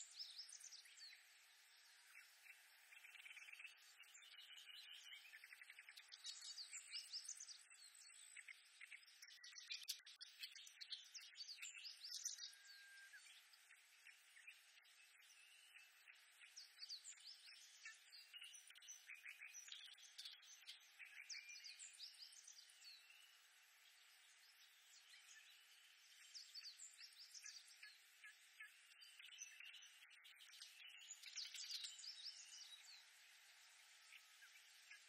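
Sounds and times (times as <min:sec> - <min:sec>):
faint background hiss: 0:00.0 - 0:35.0
reed warblers singing: 0:02.1 - 0:33.1.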